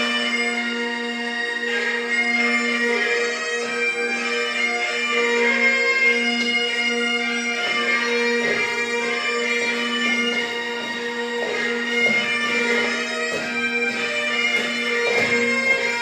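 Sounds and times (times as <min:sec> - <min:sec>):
bagpipe melody over drone: 0:00.0 - 0:16.0.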